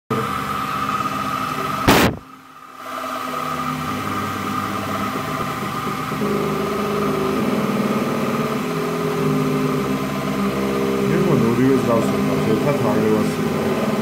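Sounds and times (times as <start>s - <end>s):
low warbling tone: 0.1s - 14.0s
milling machine humming and whining: 0.1s - 14.0s.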